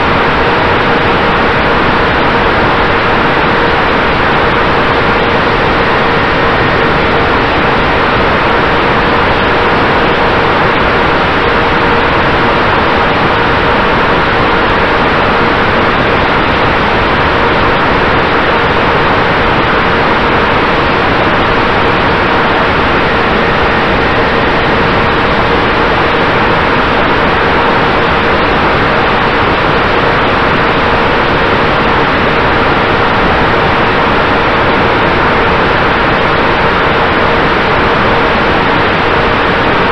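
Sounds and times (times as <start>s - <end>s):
faint hum tones: 0.0s - 39.9s
loud steady hiss: 0.0s - 39.9s.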